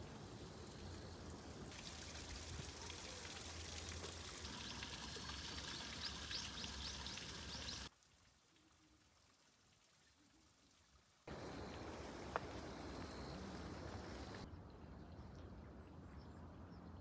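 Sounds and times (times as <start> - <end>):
trickling water wash: 0.0 - 14.5.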